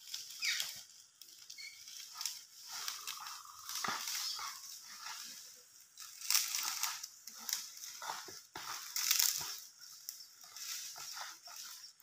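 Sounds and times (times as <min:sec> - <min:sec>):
wind rustling palm fronds: 0:00.0 - 0:12.0.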